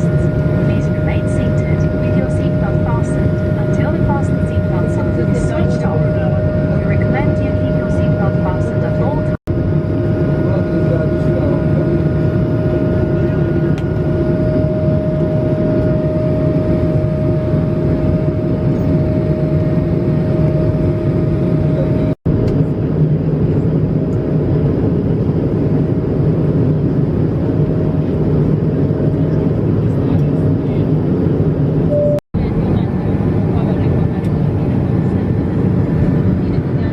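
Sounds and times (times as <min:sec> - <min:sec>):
airliner engines humming: 0:00.0 - 0:36.9.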